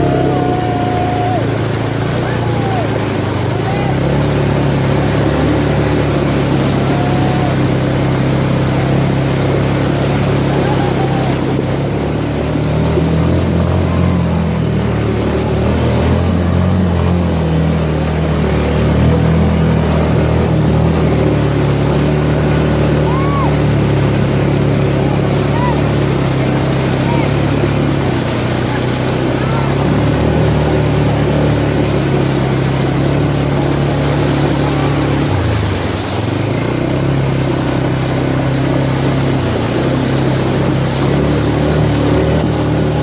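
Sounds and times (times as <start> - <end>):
quad bike engines running: 0.0 - 43.0
water splashing: 0.0 - 43.0.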